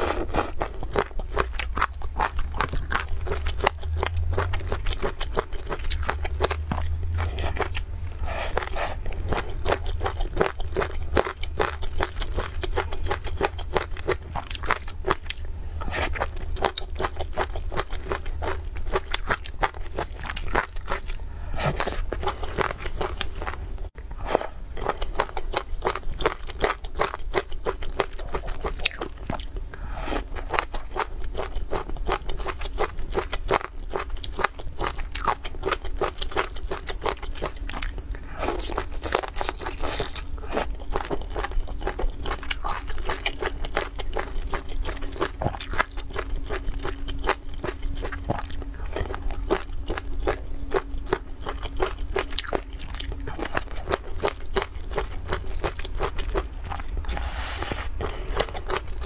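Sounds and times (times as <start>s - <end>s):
wet crunchy chewing: 0.0s - 23.6s, 24.2s - 59.0s.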